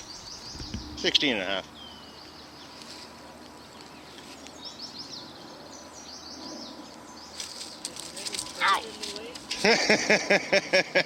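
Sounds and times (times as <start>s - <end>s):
small birds chirping: 0.0s - 9.7s
outdoor background hiss: 0.0s - 11.0s.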